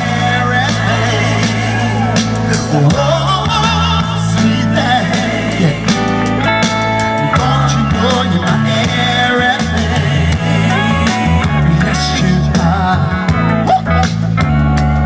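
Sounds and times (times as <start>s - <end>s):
man singing: 0.0s - 6.2s, 7.1s - 14.4s
heavy bass line: 0.0s - 15.0s.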